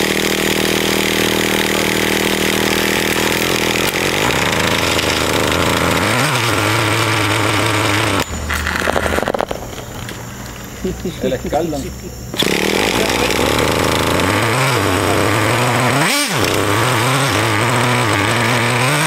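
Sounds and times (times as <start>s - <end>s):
radio-controlled car engine buzzing: 0.0s - 19.0s.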